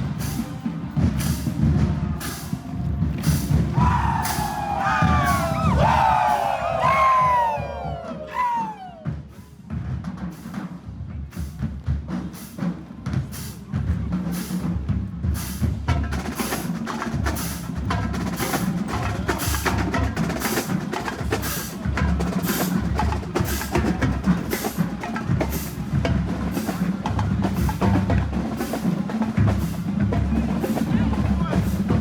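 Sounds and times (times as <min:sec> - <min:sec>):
snare and bass drums: 0:00.0 - 0:32.0.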